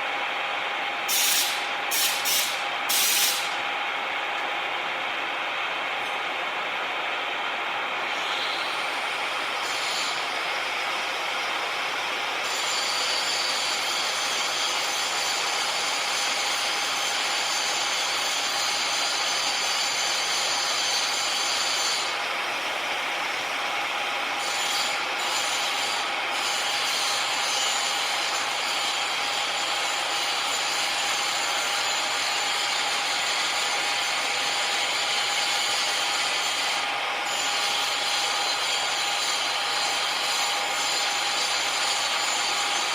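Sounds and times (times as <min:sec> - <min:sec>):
machine whine: 0:07.8 - 0:42.9.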